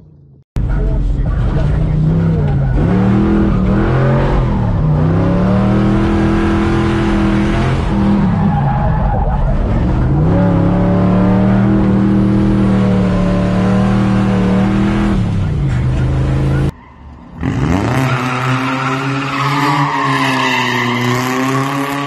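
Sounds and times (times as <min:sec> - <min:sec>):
truck engine revving: 0:00.6 - 0:22.0.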